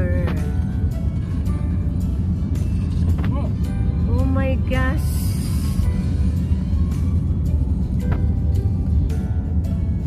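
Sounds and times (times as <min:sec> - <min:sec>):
background music: 0:00.0 - 0:10.0
car driving rumble: 0:00.0 - 0:10.0.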